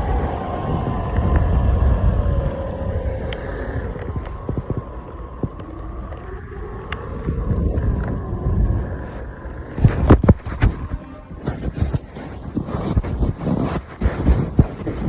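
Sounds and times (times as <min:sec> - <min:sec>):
faint steady whine: 0:00.0 - 0:15.0
skateboard wheels rumbling on road: 0:00.0 - 0:15.0
wind on microphone: 0:00.0 - 0:15.0.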